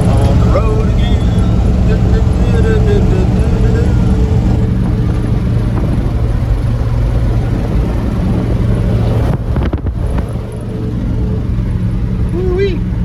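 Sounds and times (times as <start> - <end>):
road noise: 0.0 - 13.0
vehicle engine running: 0.0 - 13.0
wind on microphone: 0.0 - 13.0.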